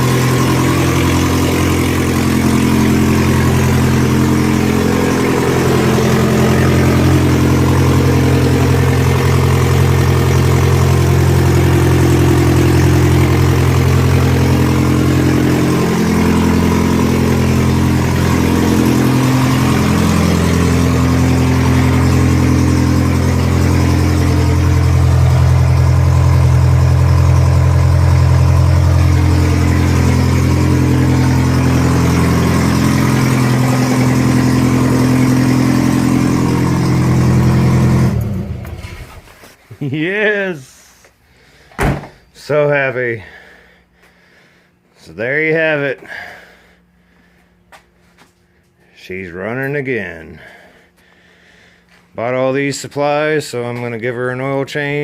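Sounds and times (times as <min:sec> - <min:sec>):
car engine idling: 0:00.0 - 0:39.5, 0:41.2 - 0:55.0.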